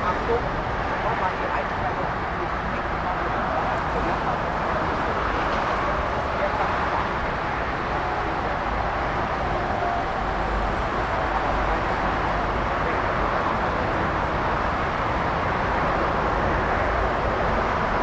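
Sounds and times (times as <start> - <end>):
jet airliner engines running: 0.0 - 18.0.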